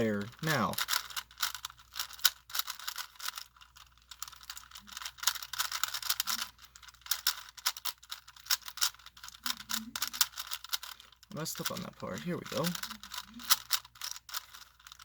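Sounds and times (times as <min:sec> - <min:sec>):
puzzle cube clicking and rattling: 0:00.0 - 0:15.0.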